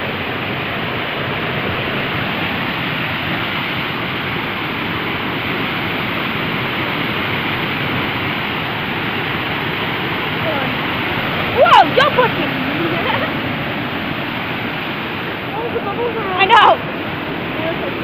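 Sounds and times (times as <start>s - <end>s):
water rushing down a waterfall: 0.0s - 18.0s.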